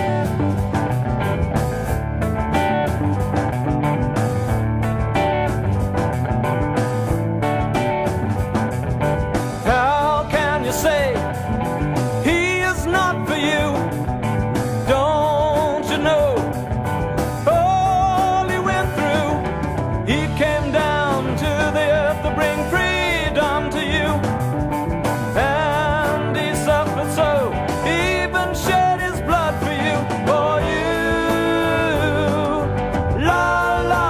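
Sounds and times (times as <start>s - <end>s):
gospel band playing: 0.0s - 34.0s.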